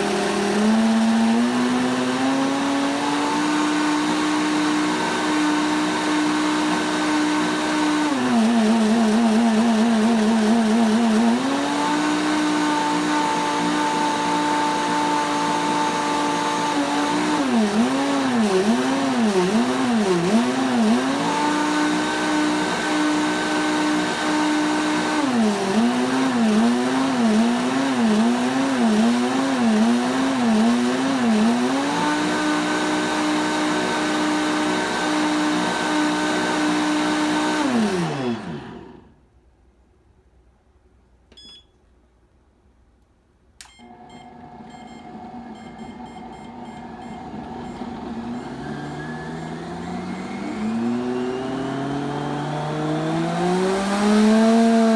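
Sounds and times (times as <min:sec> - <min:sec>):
blender motor running: 0:00.0 - 0:39.2, 0:43.8 - 0:54.9.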